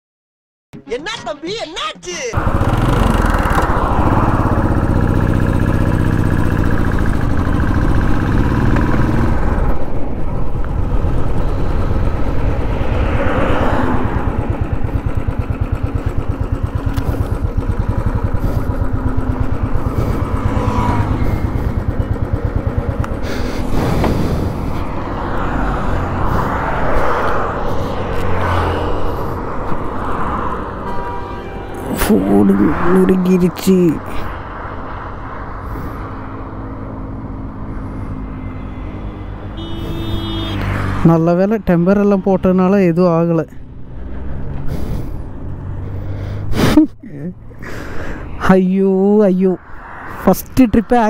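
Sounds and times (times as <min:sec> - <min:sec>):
wind and road rush: 0:00.8 - 0:51.0
motorcycle engine running: 0:02.4 - 0:33.2, 0:35.7 - 0:46.1.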